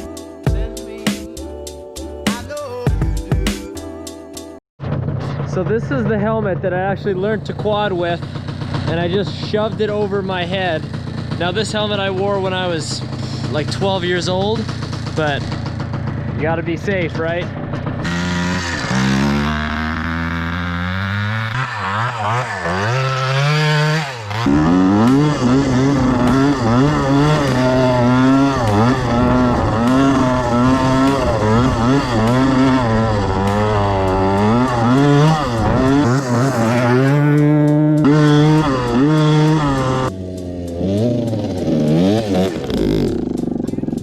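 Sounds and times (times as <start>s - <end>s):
dirt bike engine revving: 5.0s - 44.0s.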